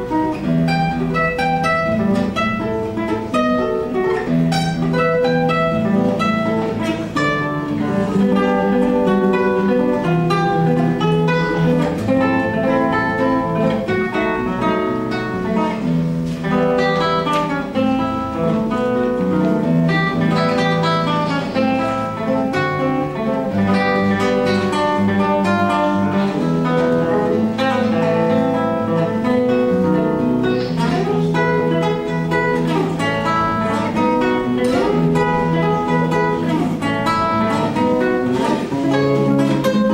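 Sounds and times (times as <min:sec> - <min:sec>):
plucked string instrument piece: 0:00.0 - 0:39.9.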